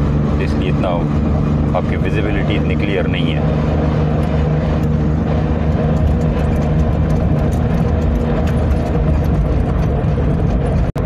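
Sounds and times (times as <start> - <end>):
car engine under load: 0.0 - 11.0.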